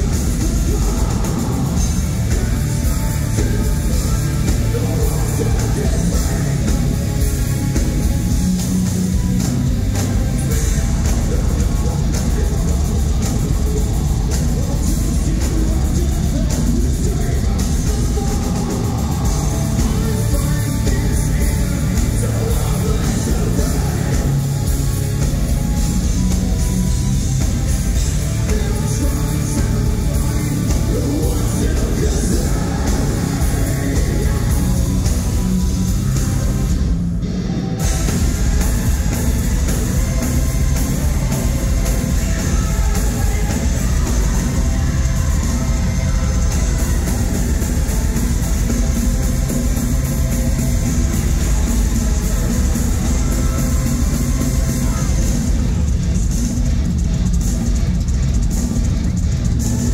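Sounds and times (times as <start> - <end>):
person singing: 0.0 - 36.7, 37.7 - 55.7
rock band playing live: 0.0 - 59.9.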